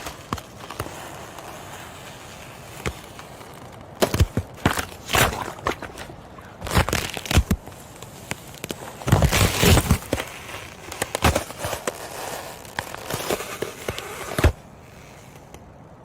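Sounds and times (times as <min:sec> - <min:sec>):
ice cracking and crunching: 0:00.0 - 0:15.6.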